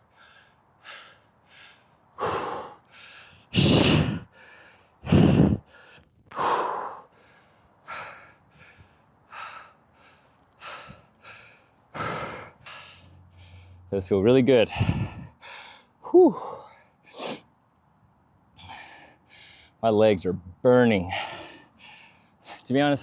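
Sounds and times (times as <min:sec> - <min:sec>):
man breathing hard and gasping: 0:00.0 - 0:13.9, 0:14.6 - 0:17.5, 0:18.5 - 0:19.8, 0:21.0 - 0:22.7.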